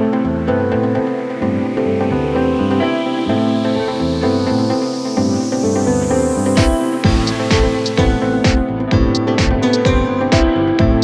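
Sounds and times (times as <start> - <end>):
rising noise sweep: 0.0 - 9.0
repeating synth pattern: 0.3 - 9.2.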